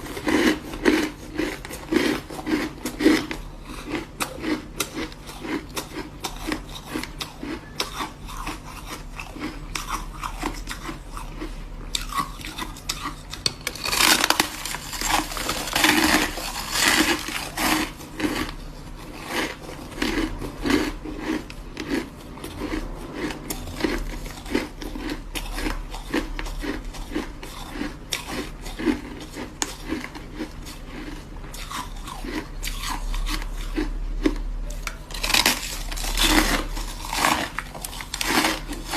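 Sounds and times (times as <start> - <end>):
ice crunching between teeth: 0.0 - 38.9.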